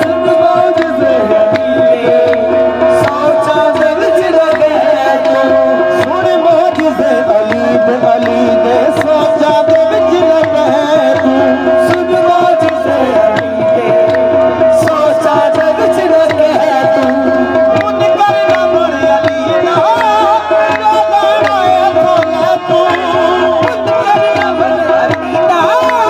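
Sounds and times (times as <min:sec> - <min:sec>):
hand drum rhythm: 0:00.0 - 0:26.0
handclaps: 0:00.0 - 0:26.0
harmonium: 0:00.0 - 0:26.0
person singing: 0:00.0 - 0:26.0.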